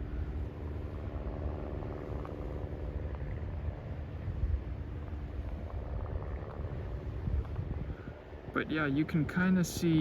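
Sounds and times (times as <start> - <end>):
faint motor hum: 0.0 - 10.0
low rumble: 0.0 - 10.0.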